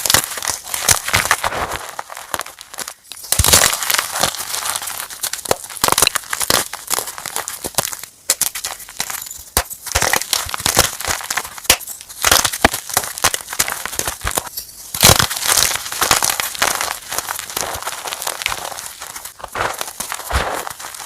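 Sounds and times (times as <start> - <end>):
chalk sticks crunching: 0.0 - 21.0.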